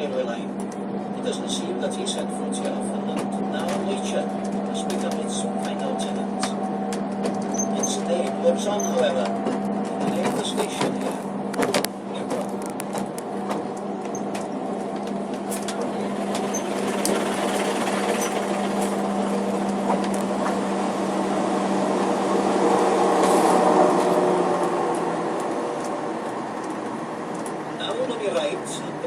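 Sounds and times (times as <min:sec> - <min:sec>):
running gear rumble: 0:00.0 - 0:29.0
train locomotive hum: 0:00.0 - 0:29.0.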